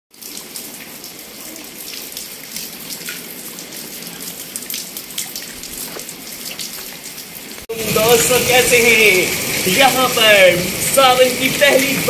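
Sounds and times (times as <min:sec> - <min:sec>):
rain drops on concrete and leaves: 0:00.1 - 0:12.0.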